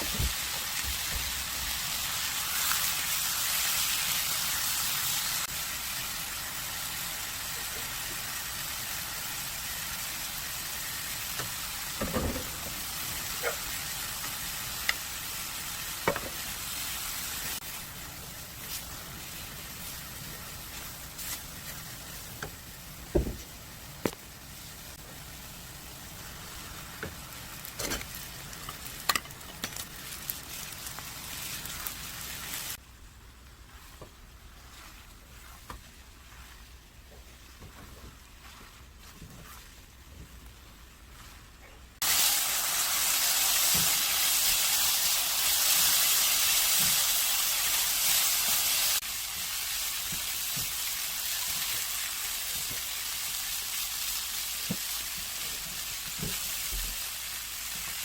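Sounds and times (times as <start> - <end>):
food sizzling in frying pan: 0.0 - 32.8, 42.0 - 58.0.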